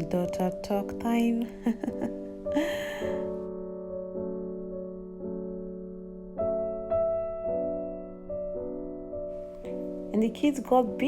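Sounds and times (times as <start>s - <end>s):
soft slow piano music: 0.0s - 11.0s.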